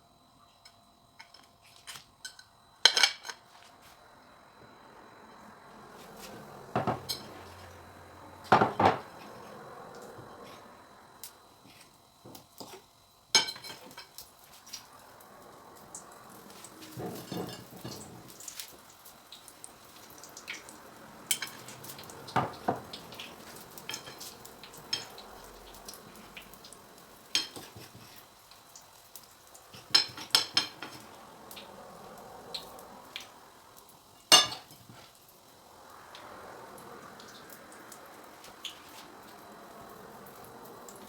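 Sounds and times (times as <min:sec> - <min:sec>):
oil sizzling in a pan: 0:05.4 - 0:41.0.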